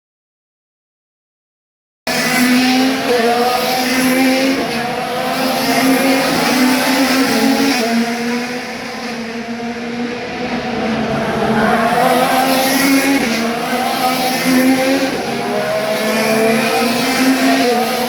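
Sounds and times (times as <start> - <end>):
race car engines passing: 2.1 - 18.0.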